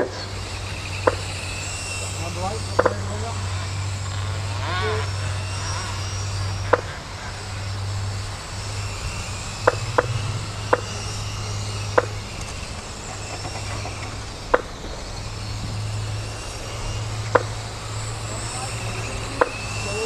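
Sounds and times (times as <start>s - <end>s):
electric rc cars humming: 0.0s - 20.0s.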